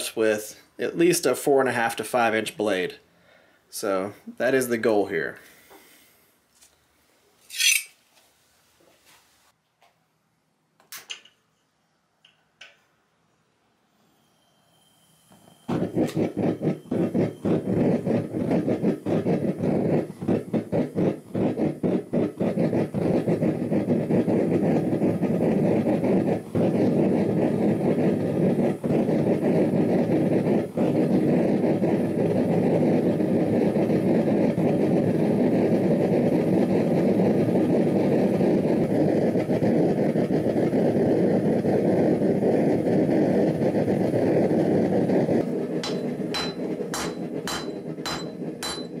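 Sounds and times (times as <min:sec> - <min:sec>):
gas burner flame roaring: 0:00.0 - 0:06.3, 0:15.1 - 0:49.0.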